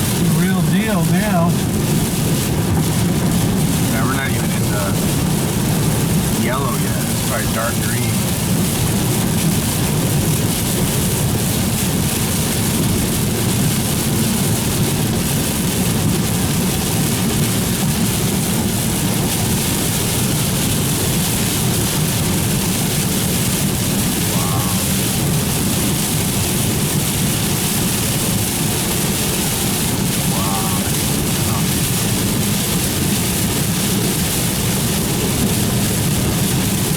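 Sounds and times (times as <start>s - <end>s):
rain on vehicle: 0.0s - 36.9s
tyres hissing on wet road: 0.0s - 36.9s
vehicle low drone: 0.0s - 36.9s.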